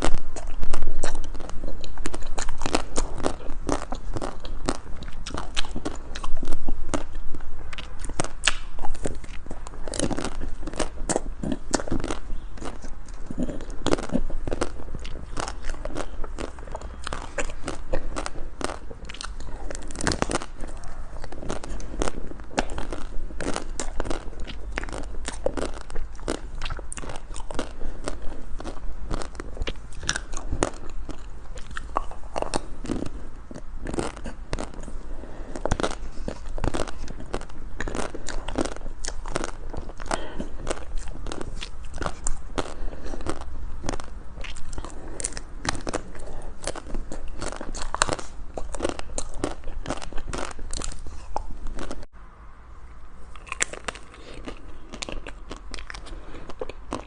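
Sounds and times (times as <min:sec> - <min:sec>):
crunching and chewing ice cream: 0:00.0 - 0:52.1, 0:53.2 - 0:57.0
steady low hum: 0:00.0 - 0:57.0.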